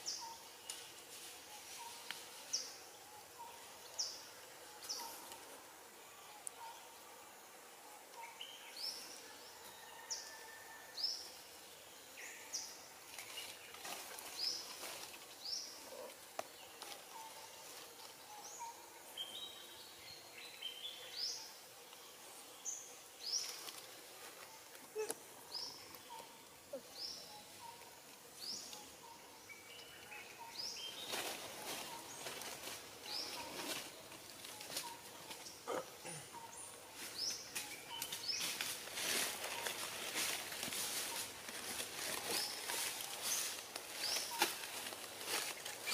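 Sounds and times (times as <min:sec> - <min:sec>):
forest ambience: 0:00.0 - 0:45.9.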